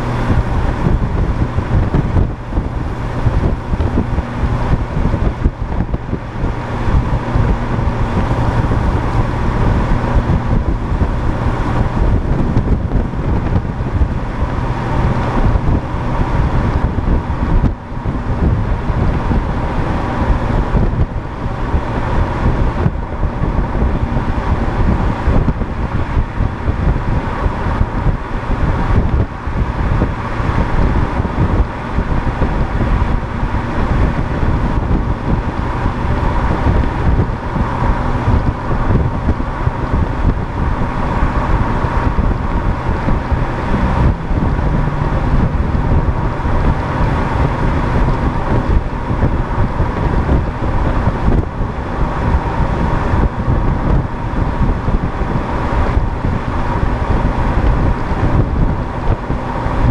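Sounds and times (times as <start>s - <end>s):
road and engine noise: 0.0s - 59.9s
wind buffeting microphone: 0.0s - 59.9s.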